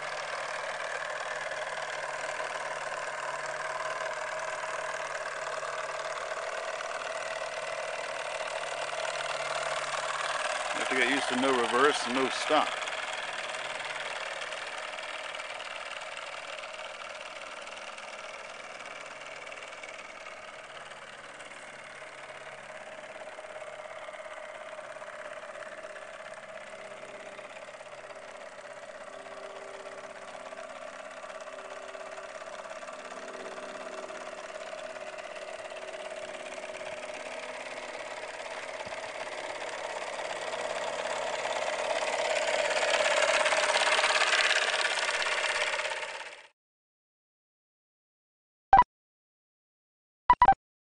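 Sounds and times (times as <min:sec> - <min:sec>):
model steam engine running: 0:00.0 - 0:46.5.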